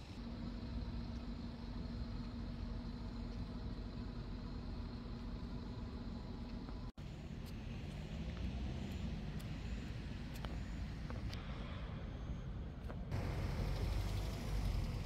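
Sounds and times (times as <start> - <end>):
distant traffic rumble: 0.4 - 15.0.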